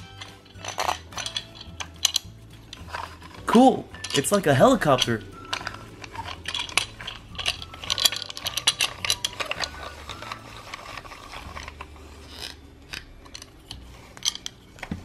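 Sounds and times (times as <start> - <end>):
ratcheting plastic clicks: 0.0 - 15.0.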